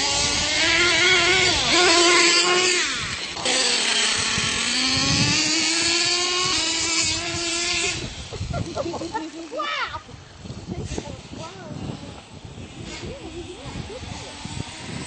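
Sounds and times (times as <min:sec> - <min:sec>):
toy truck motors whining: 0:00.0 - 0:15.0.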